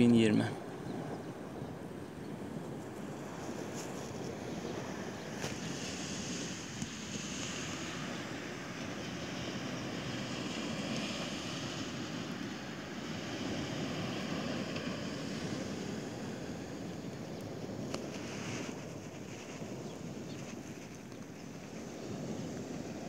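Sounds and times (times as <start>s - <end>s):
low surf on sand beach: 0.0s - 23.0s
wind noise on microphone: 0.0s - 23.0s.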